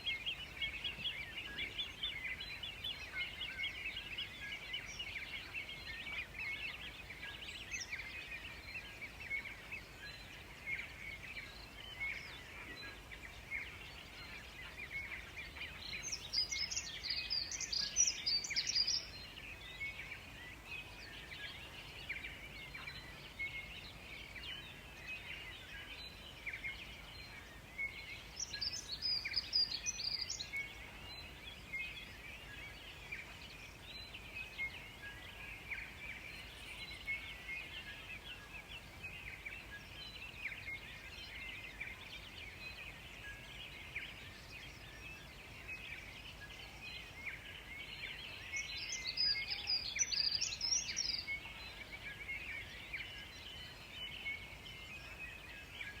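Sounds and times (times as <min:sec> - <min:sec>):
forest birds chirping: 0:00.0 - 0:56.0
high bird song phrase: 0:00.0 - 0:56.0.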